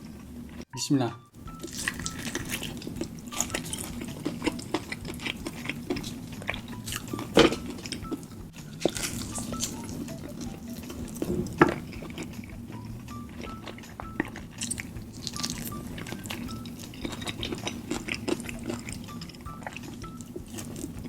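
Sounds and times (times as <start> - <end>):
soft background music: 0.0 - 21.0
chewing and biting food: 1.5 - 21.0.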